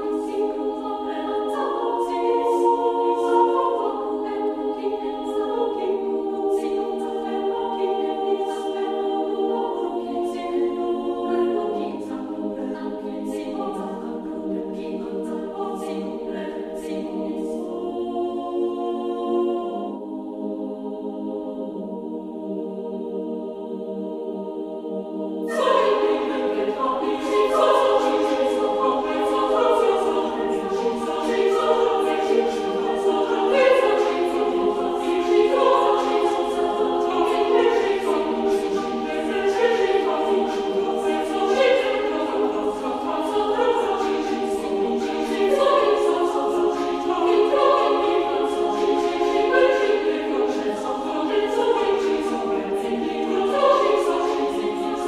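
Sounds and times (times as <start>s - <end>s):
choir singing sustained chords: 0.0s - 55.0s.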